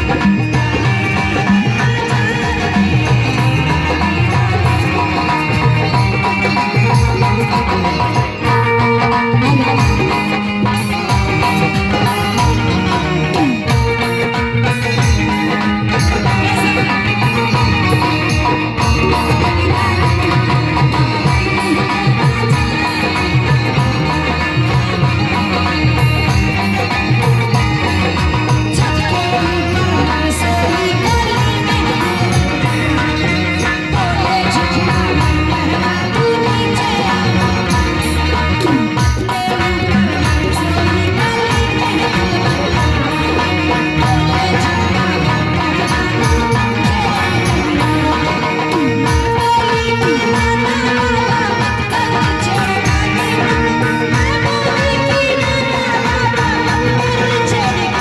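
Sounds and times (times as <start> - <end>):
folk music with held melody: 0.0 - 58.0.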